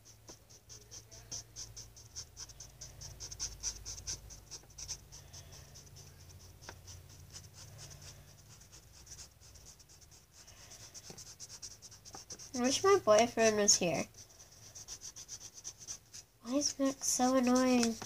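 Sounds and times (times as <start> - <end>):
faint scratching: 0.0 - 18.0.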